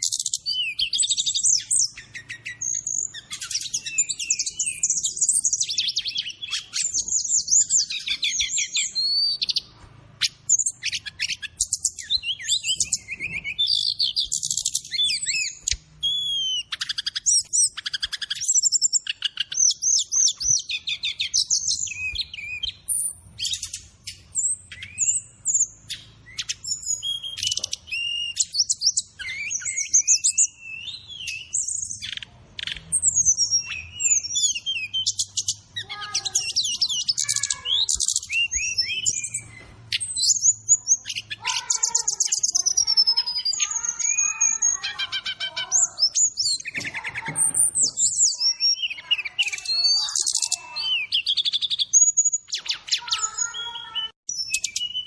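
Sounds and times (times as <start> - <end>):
bird singing high chirps and trills: 0.0 - 55.0.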